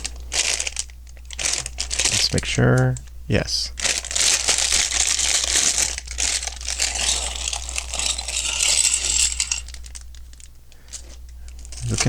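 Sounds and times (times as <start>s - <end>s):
plastic bag crinkling: 0.0s - 3.0s, 3.7s - 12.0s.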